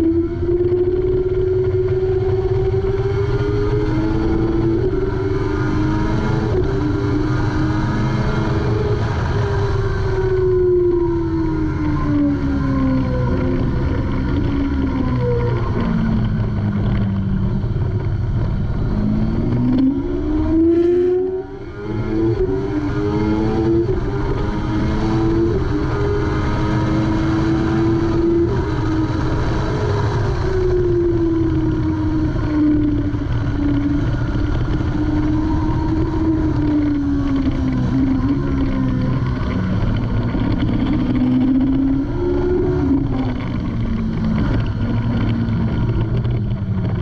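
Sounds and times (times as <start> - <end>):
motorcycle engine accelerating: 0.0 - 47.0
wind rush on microphone: 0.0 - 47.0.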